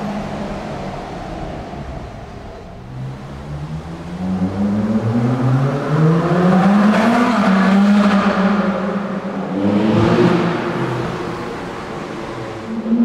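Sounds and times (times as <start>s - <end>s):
car engines accelerating in tunnel: 0.0s - 13.0s.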